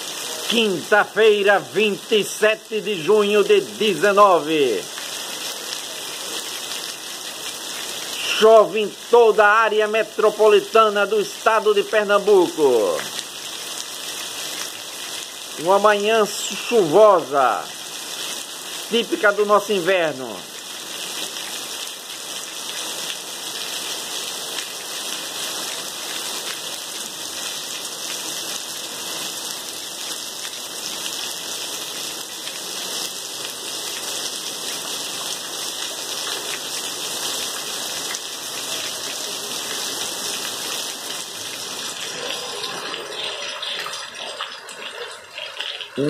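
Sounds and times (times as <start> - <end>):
heavy rain on leaves and pavement: 0.0 - 46.0.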